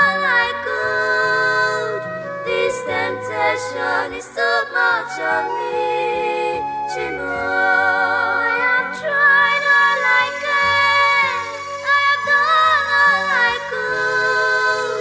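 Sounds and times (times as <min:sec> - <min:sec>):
woman singing in harmony: 0:00.0 - 0:15.0.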